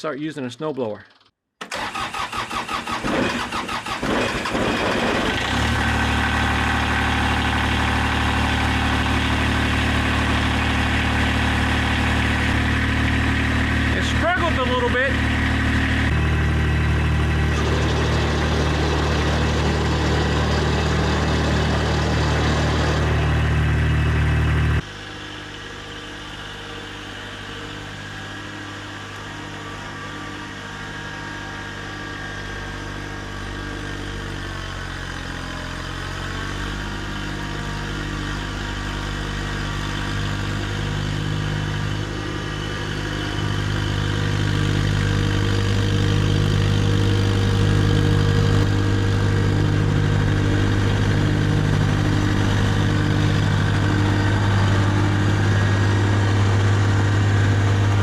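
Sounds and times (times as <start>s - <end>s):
diesel tractor engine running: 1.7s - 58.0s.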